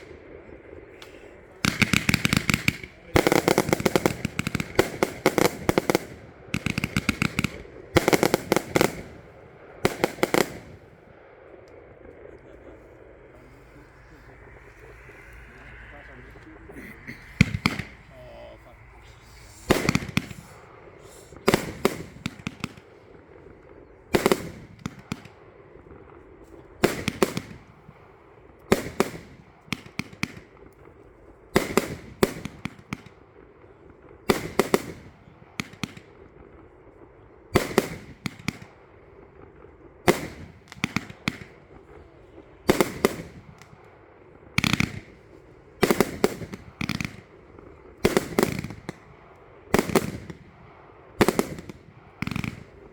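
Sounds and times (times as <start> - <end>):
firework bangs with crackling: 0.0 - 52.9.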